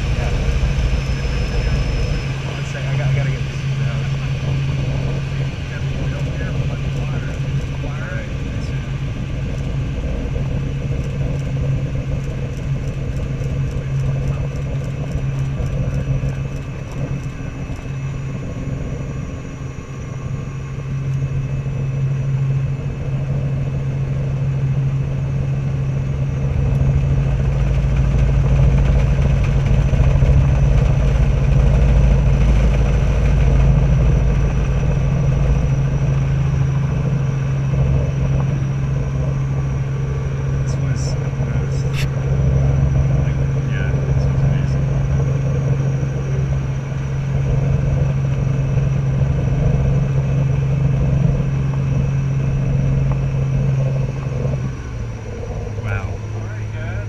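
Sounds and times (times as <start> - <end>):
heavy low rumble: 0.0 - 57.0
helicopter engine and rotors: 0.0 - 57.0.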